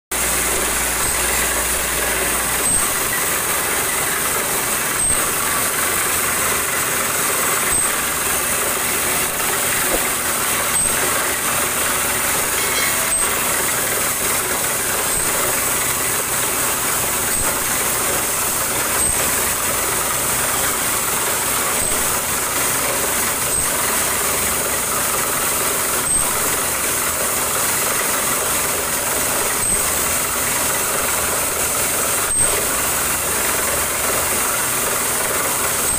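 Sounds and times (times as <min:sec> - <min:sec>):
drilling rig rushing noise: 0:00.2 - 0:35.9.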